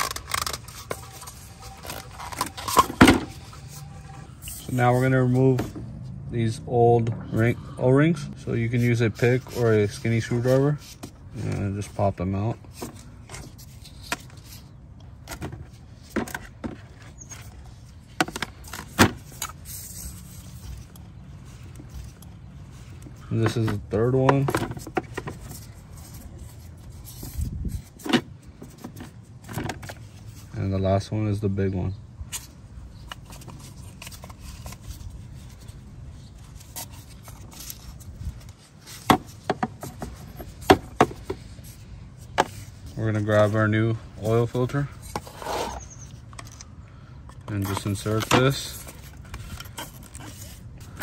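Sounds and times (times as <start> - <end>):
handling and scraping: 0.0 - 51.0.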